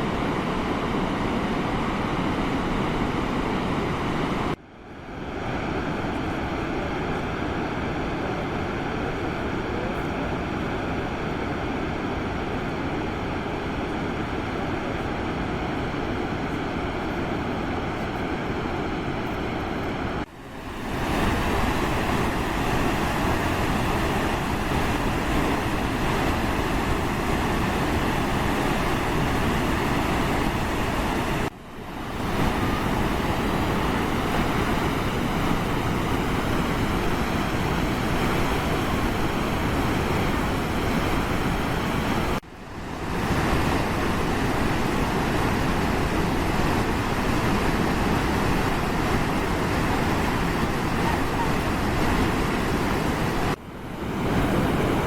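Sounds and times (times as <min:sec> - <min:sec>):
waterfall roar: 0:00.0 - 0:04.6, 0:05.2 - 0:55.0.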